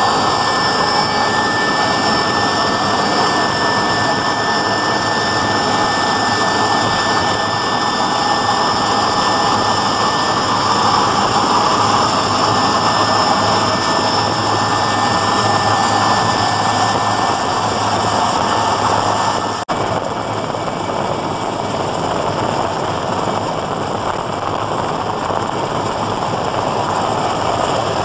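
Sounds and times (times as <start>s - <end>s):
helicopter turbine and rotor noise: 0.0s - 28.0s
high-pitched whine: 0.0s - 28.0s.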